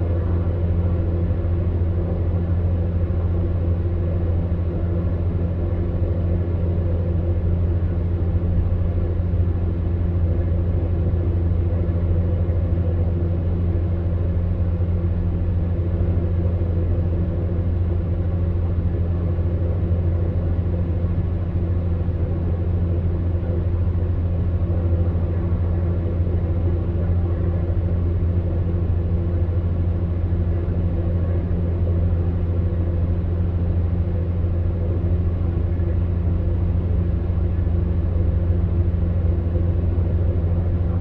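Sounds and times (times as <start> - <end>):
fan heater humming: 0.0 - 41.0.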